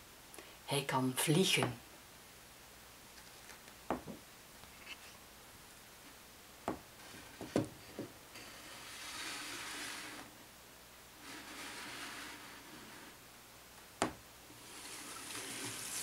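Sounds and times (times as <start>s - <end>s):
soft rustling hiss: 0.0s - 16.0s.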